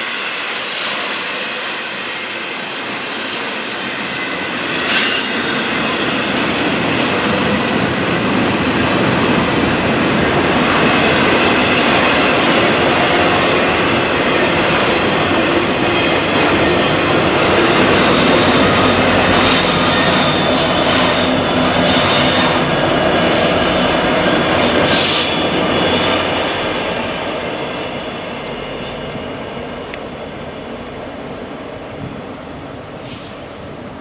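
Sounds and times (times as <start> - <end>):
train wheel squeal: 0.0 - 9.4, 10.1 - 29.9
freight train wheels rumbling: 0.0 - 34.0.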